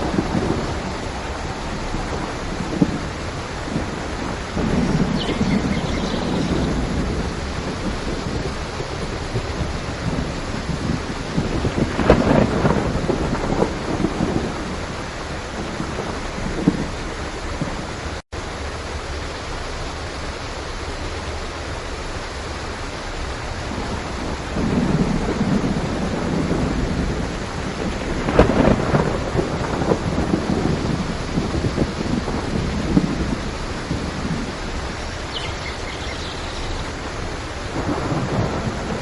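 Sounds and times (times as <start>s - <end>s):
thunder rumbling: 0.0s - 18.2s, 23.6s - 39.0s
heavy rain: 0.0s - 39.0s.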